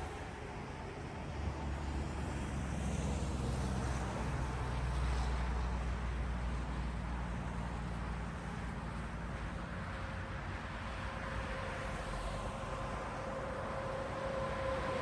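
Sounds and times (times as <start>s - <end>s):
steady traffic noise: 0.0s - 15.0s.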